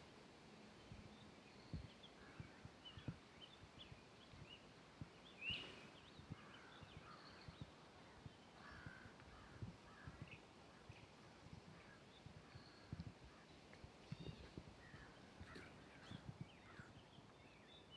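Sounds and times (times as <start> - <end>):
small birds chirping: 0.7 - 17.9
faint footsteps on a forest trail: 0.9 - 17.8.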